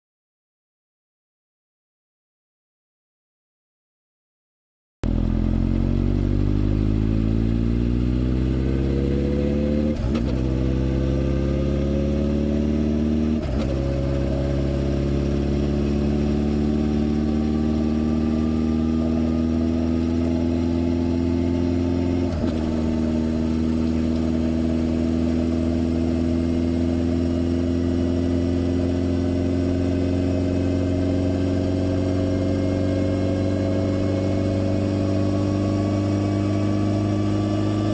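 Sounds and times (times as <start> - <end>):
motorcycle engine accelerating: 5.0 - 37.9.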